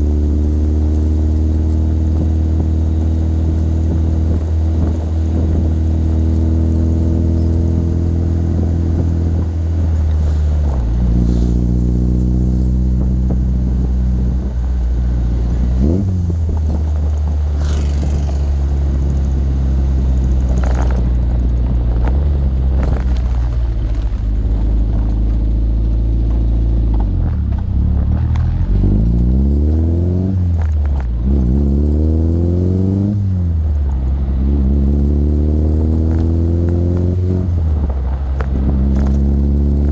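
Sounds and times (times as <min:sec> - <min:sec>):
car engine pulling: 0:00.0 - 0:39.9.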